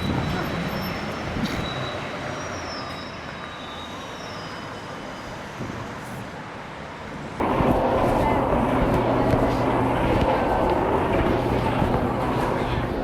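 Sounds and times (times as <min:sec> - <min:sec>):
city traffic: 0:00.0 - 0:13.0.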